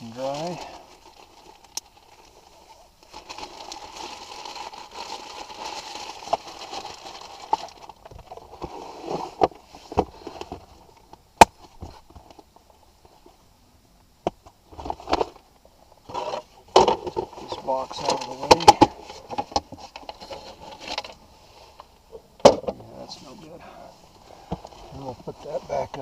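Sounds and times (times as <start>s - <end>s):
rustling of container packing: 0.0s - 13.4s, 14.7s - 26.0s.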